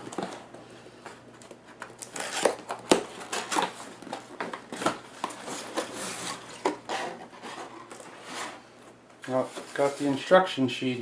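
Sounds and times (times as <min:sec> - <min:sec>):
cardboard and packaging rustling: 0:00.0 - 0:10.5.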